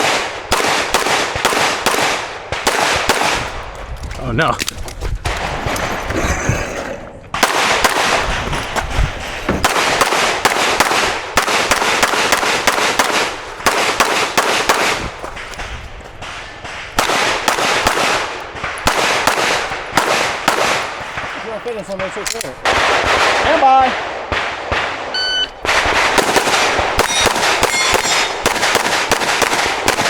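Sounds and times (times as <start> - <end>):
pistol shots with echo: 0.0 - 3.6, 7.4 - 8.7, 9.6 - 15.6, 16.2 - 30.0.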